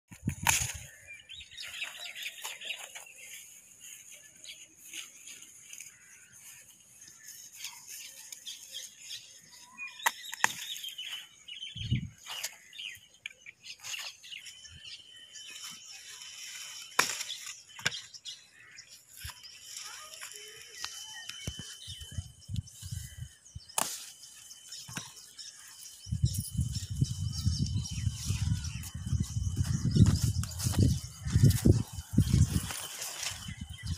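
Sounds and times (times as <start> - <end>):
plant leaves rustling and crackling: 0.1 - 11.4, 13.7 - 33.9.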